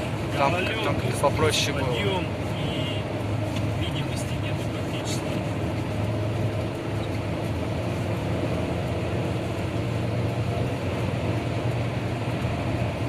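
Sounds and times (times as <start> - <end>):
car engine from inside cabin: 0.0 - 13.0
tyres on snowy icy road: 0.0 - 13.0.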